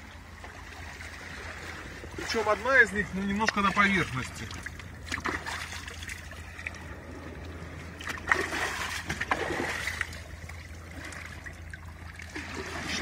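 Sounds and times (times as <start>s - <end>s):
small water splashes: 0.1s - 13.0s
water lapping against rocks: 0.4s - 13.0s.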